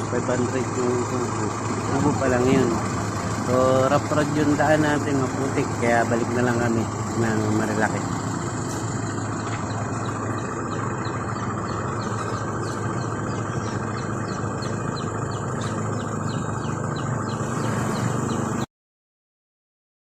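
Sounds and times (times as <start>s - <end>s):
low steady rumble: 0.0s - 18.6s
birds chirping: 0.0s - 18.7s.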